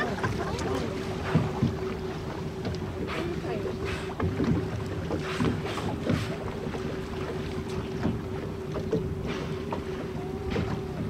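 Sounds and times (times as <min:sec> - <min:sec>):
boat motor humming: 0:00.0 - 0:11.0
water splashing: 0:00.0 - 0:11.0.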